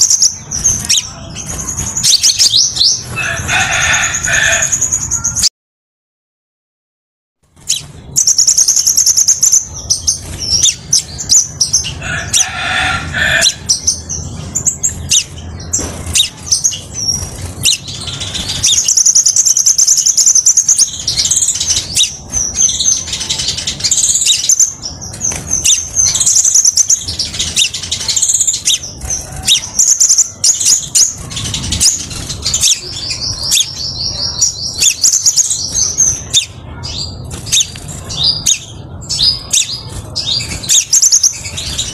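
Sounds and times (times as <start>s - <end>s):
bird chirping and trilling: 0.0s - 5.5s, 7.6s - 41.9s.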